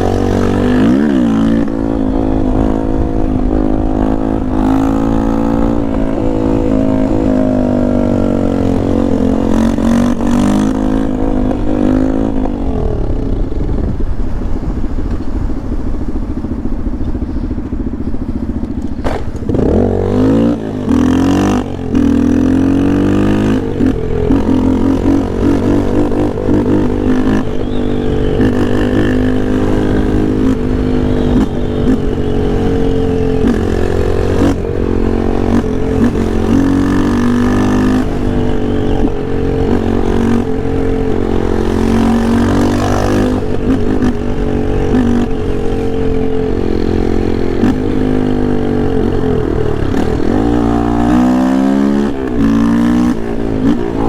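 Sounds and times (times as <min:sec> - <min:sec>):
motorcycle engine revving: 0:00.0 - 0:54.0
wind rumble: 0:00.0 - 0:54.0.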